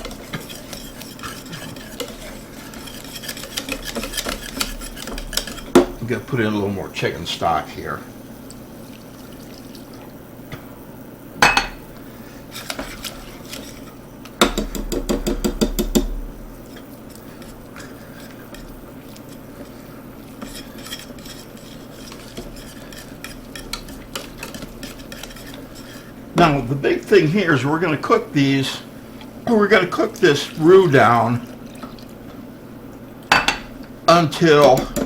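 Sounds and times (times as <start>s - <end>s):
whisk scraping a pot: 0.0s - 8.0s, 11.5s - 32.2s, 33.3s - 35.0s.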